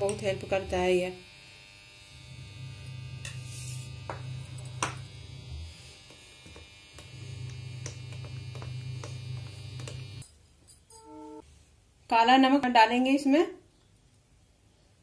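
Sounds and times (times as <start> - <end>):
low electrical hum: 0.0 - 12.2.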